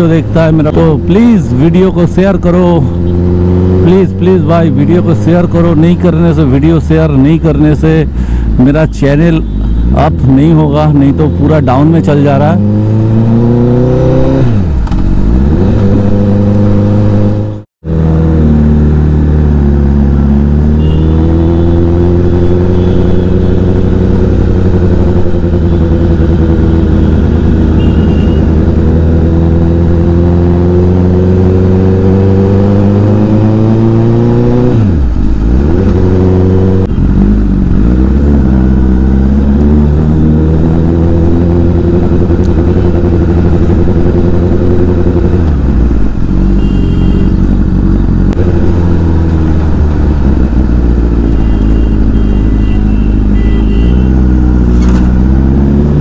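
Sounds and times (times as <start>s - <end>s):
motorcycle engine revving: 0.0s - 8.4s, 9.4s - 56.0s.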